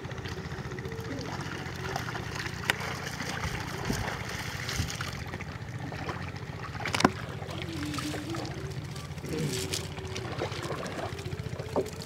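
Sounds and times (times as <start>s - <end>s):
steady low hum: 0.0s - 12.0s
water trickling and splashing: 0.0s - 12.0s.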